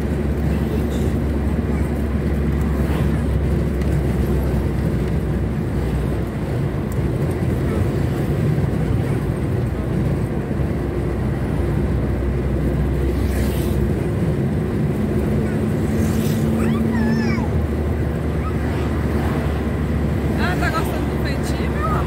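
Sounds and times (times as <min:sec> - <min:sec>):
car cabin road drone: 0:00.0 - 0:22.0.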